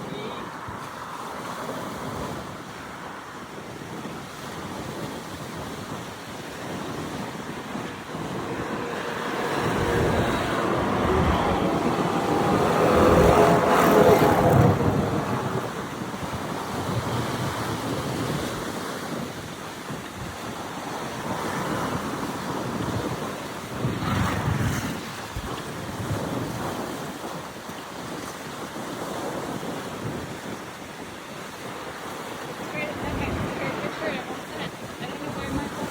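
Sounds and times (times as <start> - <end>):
sea waves breaking on beach: 0.0 - 35.9
wind buffeting microphone: 0.0 - 35.9.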